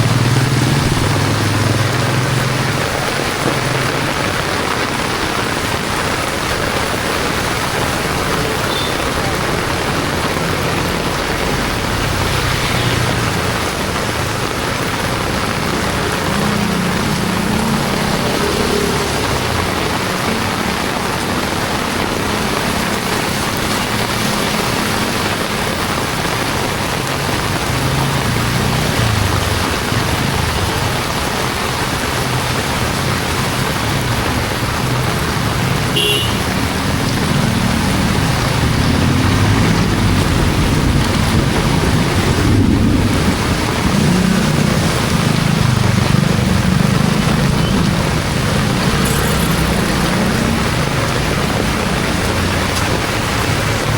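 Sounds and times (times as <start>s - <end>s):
heavy rain pouring on street: 0.0s - 53.9s
passing vehicle engines: 0.0s - 53.9s.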